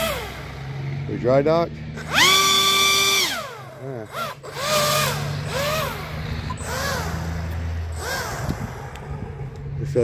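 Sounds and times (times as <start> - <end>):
electric motor whine: 0.0 - 1.0, 2.0 - 9.8.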